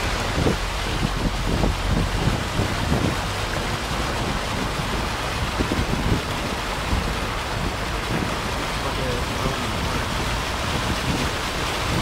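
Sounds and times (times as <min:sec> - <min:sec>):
rush of water: 0:00.0 - 0:12.0
vehicle low rumble: 0:00.0 - 0:12.0
water splashes: 0:00.0 - 0:12.0.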